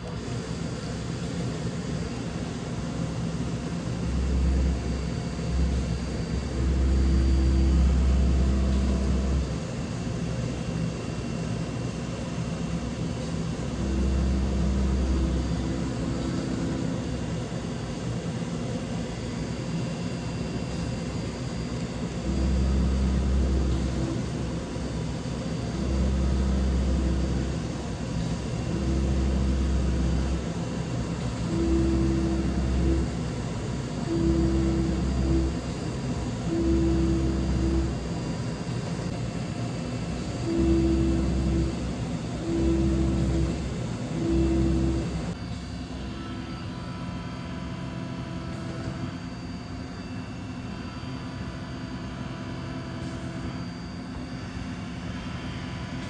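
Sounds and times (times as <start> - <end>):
machining centre drone: 0.0 - 56.0.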